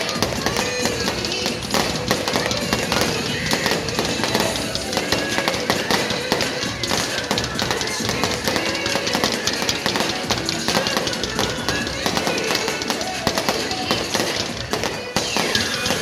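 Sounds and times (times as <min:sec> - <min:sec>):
fireworks crackling and popping: 0:00.0 - 0:16.0
music playing: 0:00.0 - 0:16.0.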